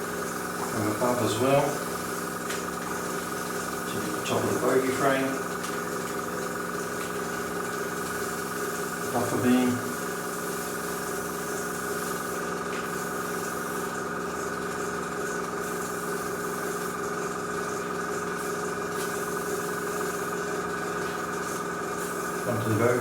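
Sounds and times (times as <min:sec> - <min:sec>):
compressor humming: 0:00.0 - 0:23.0
airbrush spraying hiss: 0:00.1 - 0:14.1, 0:15.6 - 0:17.0, 0:18.3 - 0:23.0.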